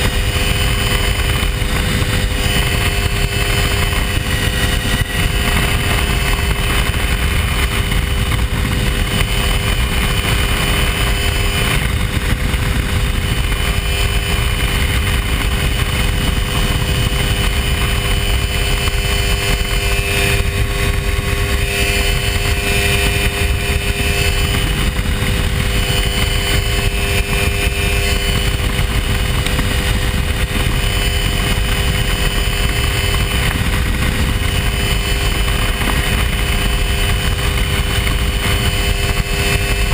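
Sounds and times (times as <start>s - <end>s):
constant rushing noise: 0.0s - 39.9s
small airplane engine and propeller: 0.0s - 39.9s.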